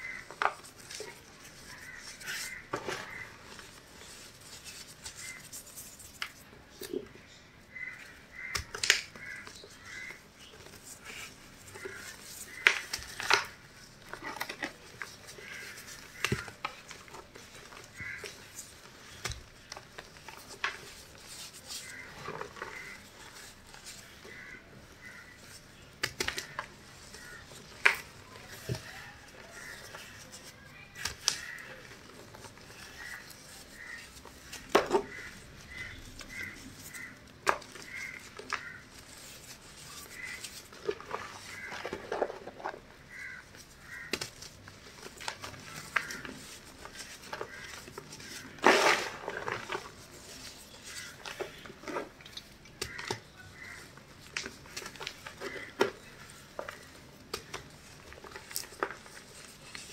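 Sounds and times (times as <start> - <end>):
chalk crunching and snapping: 0.0 - 7.0, 7.8 - 59.9.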